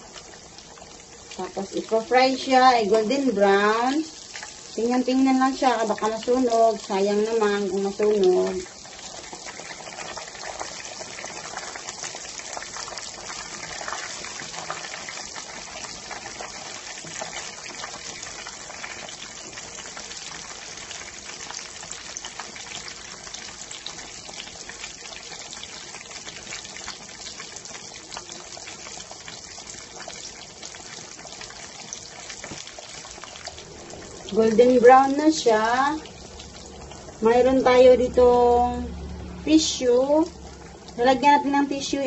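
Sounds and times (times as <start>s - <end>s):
meat sizzling in hot oil: 0.0s - 42.0s.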